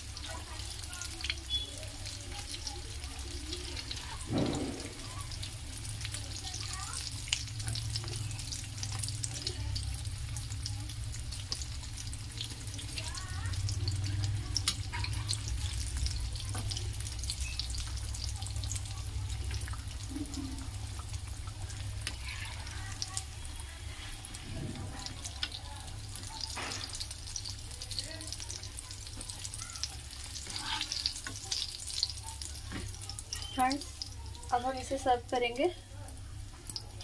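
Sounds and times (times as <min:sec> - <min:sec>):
deep-frying sizzle with pops: 0:00.0 - 0:37.0.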